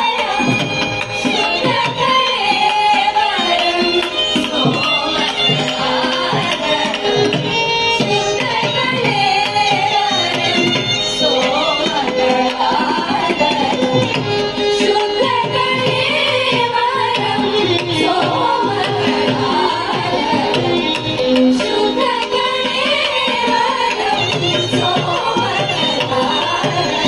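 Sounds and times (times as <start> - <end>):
mridangam drumming: 0.0 - 27.0
violin: 0.0 - 27.0
women singing in unison: 0.0 - 27.0.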